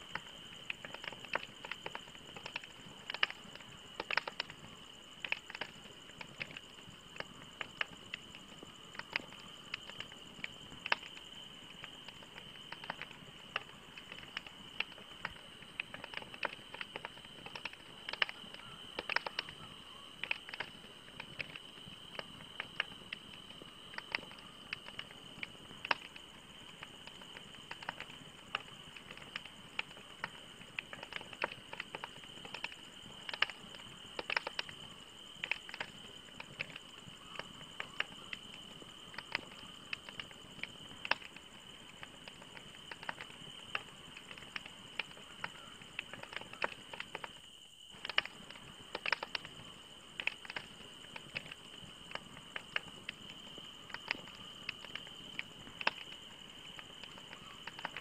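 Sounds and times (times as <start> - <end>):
burning logs popping and snapping: 0.0 - 58.0
campfire crackling: 0.0 - 58.0
steady fire hiss: 0.0 - 58.0.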